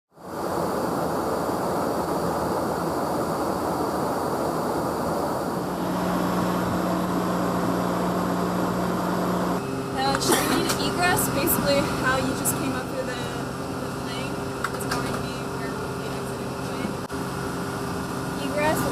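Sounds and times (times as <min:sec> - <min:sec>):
jet engines and airflow rushing: 0:00.1 - 0:18.9
steady low hum: 0:00.2 - 0:18.9.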